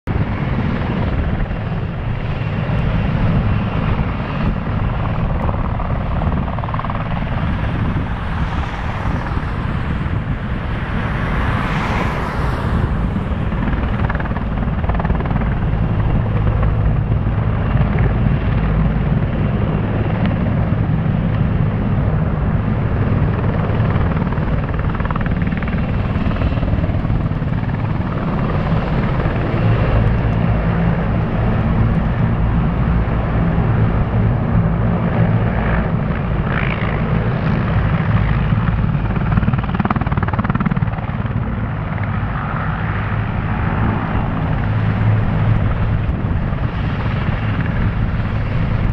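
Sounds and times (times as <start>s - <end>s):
helicopter engines running: 0.1s - 48.9s
helicopter rotor beating: 0.1s - 48.9s.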